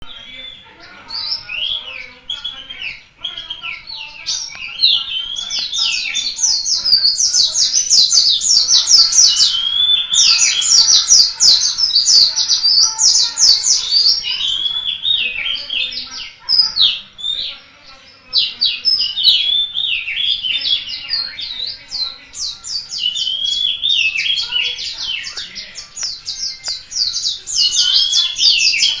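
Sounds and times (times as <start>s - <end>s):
bird twittering song: 0.0s - 29.0s.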